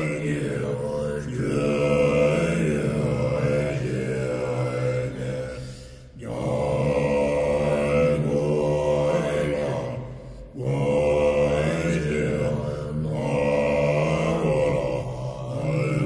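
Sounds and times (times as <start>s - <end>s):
chanted singing: 0.0s - 16.0s
steady drone: 0.0s - 16.0s.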